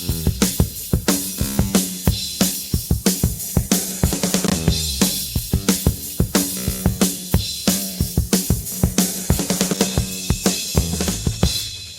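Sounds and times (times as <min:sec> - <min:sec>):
drum kit playing a beat: 0:00.0 - 0:11.9.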